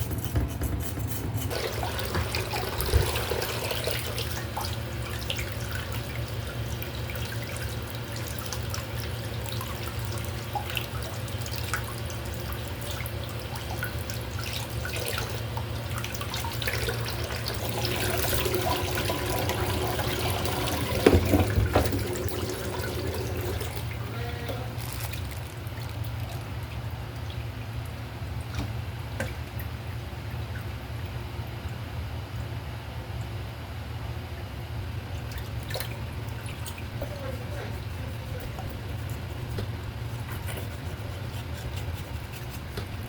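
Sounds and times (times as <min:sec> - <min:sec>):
tap water running into sink: 0:00.0 - 0:27.3, 0:35.2 - 0:43.0
steady low hum: 0:00.0 - 0:43.0.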